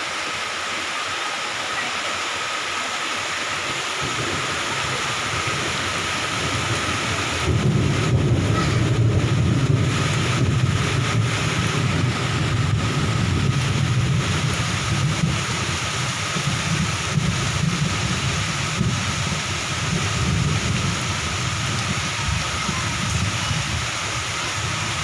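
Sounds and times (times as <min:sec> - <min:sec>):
heavy rain falling: 0:00.0 - 0:25.0
low rumble: 0:03.8 - 0:25.0.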